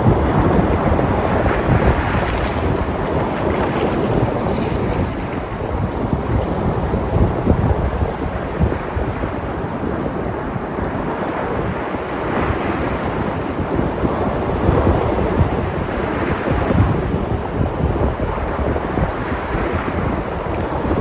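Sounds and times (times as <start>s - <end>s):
waves breaking: 0.0s - 21.0s
wind buffeting microphone: 0.0s - 21.0s.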